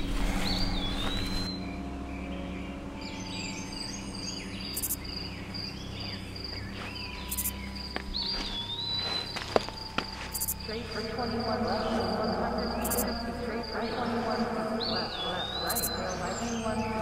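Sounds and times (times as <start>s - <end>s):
bird chirps: 0.0s - 17.0s
high pulsing insect trill: 0.0s - 17.0s
low steady hum: 0.0s - 17.0s.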